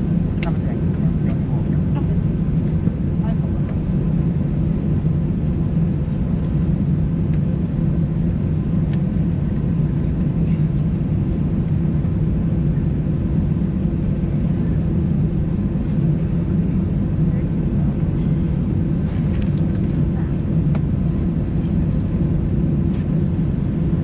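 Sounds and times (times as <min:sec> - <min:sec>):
jet engines idling in cabin: 0:00.0 - 0:24.0.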